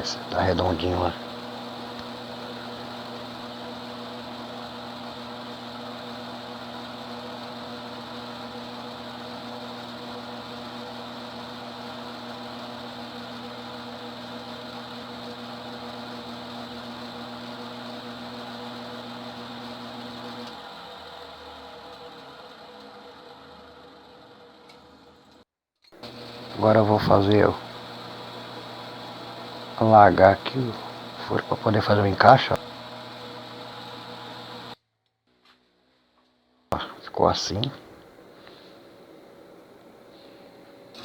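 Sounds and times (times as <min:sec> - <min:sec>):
lathe hiss: 0:00.0 - 0:25.2, 0:26.0 - 0:34.8, 0:36.7 - 0:41.0
lathe motor humming: 0:00.0 - 0:25.4, 0:26.0 - 0:34.8, 0:36.7 - 0:41.0.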